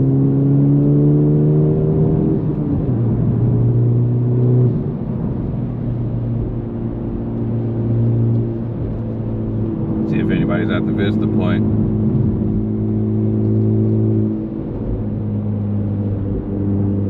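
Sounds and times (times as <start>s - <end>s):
car engine heard from cabin: 0.0s - 17.0s.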